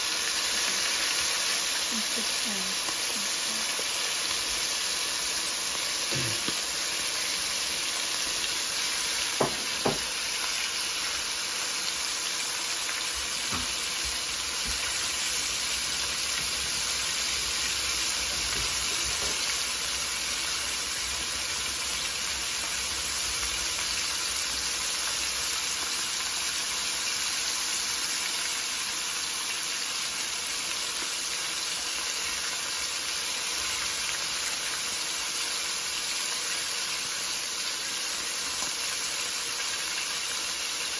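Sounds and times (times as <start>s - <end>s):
chicken sizzling in oil: 0.0s - 40.9s.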